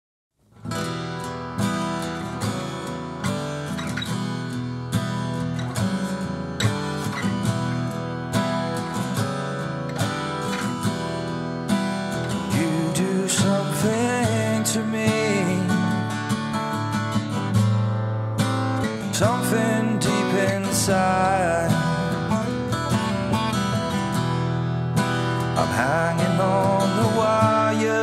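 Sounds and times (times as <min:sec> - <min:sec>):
guitar strumming: 0:00.5 - 0:28.0.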